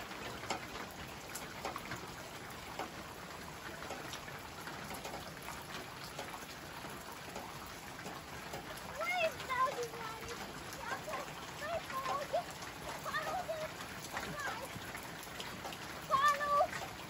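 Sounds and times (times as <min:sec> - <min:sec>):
raindrops ticking: 0:00.0 - 0:17.0
steady rain hiss: 0:00.0 - 0:17.0.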